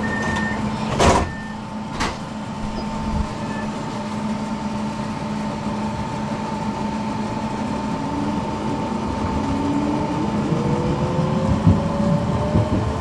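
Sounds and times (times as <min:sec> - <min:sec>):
traction motors whine rising: 0:00.0 - 0:13.0.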